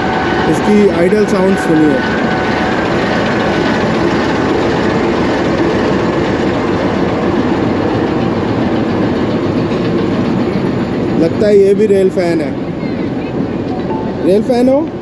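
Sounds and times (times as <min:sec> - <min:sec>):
diesel locomotive idling: 0:00.0 - 0:14.9.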